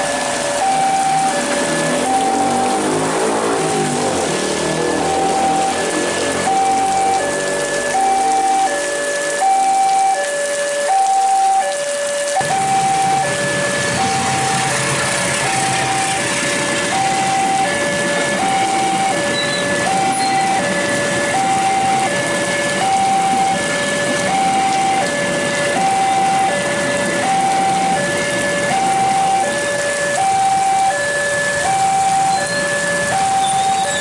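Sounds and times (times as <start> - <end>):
level crossing two-note alarm: 0.6 - 3.0, 3.6 - 14.8, 15.4 - 22.2, 24.3 - 34.0.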